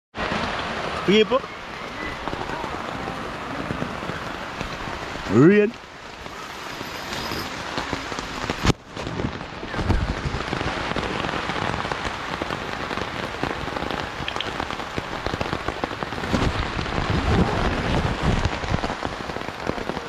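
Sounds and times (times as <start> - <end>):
rain on a tent: 0.1 - 20.0.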